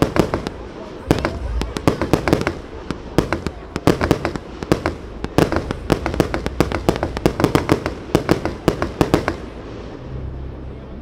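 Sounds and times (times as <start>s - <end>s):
fireworks bangs and cracks: 0.0s - 10.0s.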